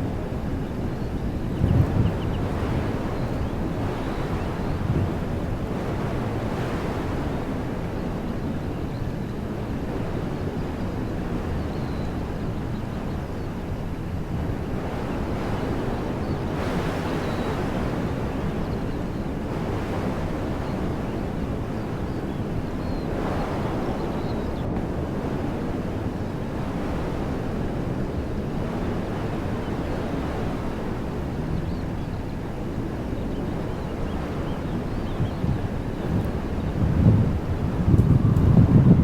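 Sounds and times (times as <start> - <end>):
wind rumble on microphone: 0.0 - 39.0
wind through trees: 0.0 - 39.0.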